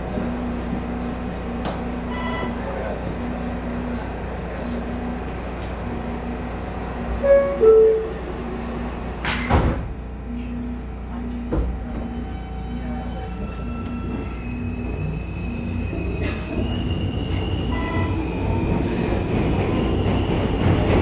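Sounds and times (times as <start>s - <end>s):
subway car running hum: 0.0s - 21.0s.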